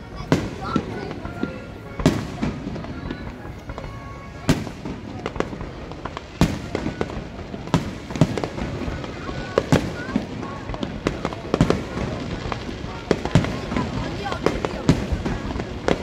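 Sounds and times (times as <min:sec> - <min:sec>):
fireworks booming: 0:00.0 - 0:16.0
fireworks pops and crackling: 0:00.0 - 0:16.0.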